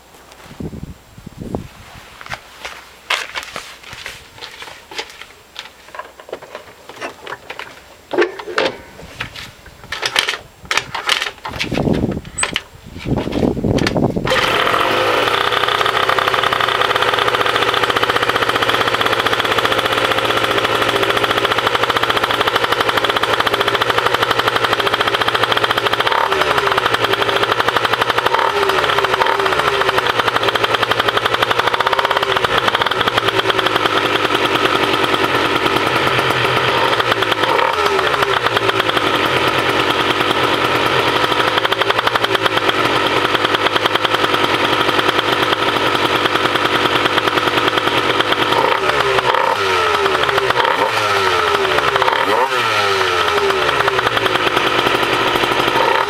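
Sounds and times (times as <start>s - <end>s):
scooter engine starting and idling: 3.1s - 56.0s.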